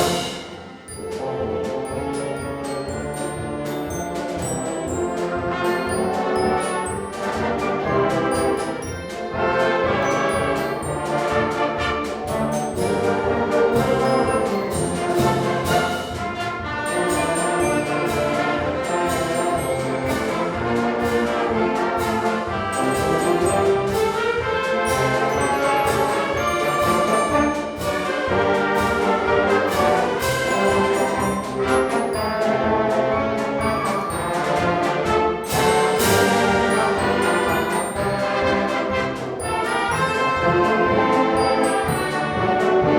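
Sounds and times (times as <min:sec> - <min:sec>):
brass and woodwinds: 0:00.0 - 0:42.9
drum strokes: 0:00.0 - 0:42.9.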